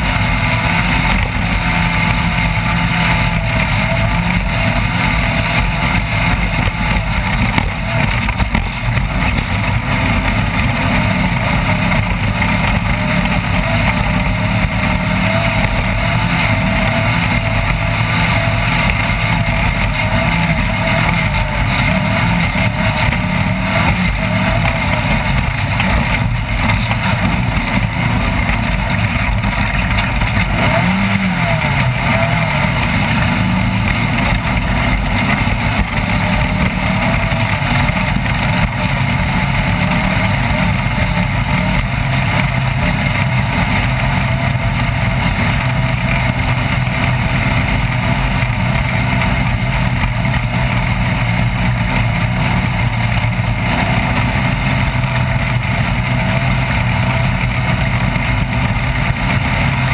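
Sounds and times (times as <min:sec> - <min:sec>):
race vehicle engine running hard: 0:00.0 - 0:59.9.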